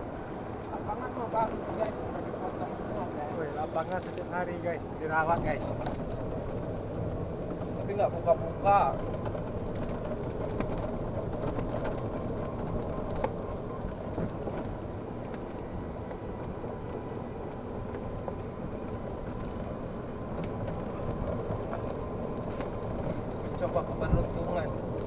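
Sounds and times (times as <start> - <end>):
golf cart rumbling on pavement: 0.0 - 25.0.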